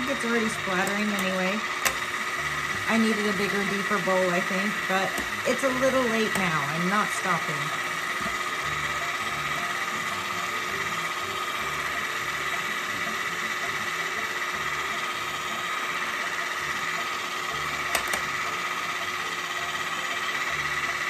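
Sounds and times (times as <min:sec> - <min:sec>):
electric hand mixer whipping cream: 0:00.0 - 0:21.0.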